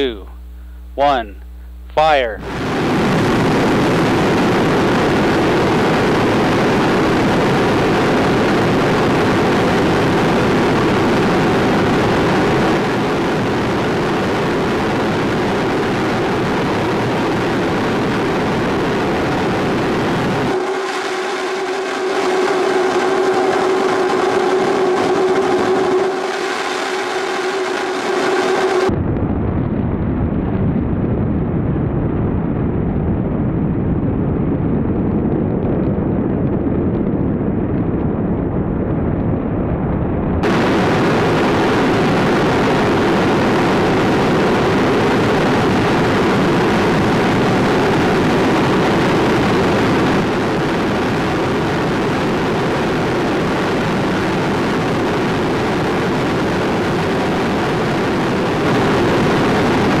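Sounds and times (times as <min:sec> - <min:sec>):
rocket booster roaring: 0:00.0 - 0:00.3, 0:02.0 - 1:00.0.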